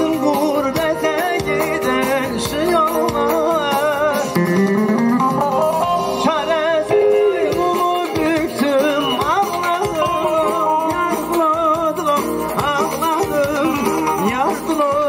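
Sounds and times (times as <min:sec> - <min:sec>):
man singing with vibrato: 0:00.0 - 0:15.0
plucked lute: 0:00.0 - 0:15.0.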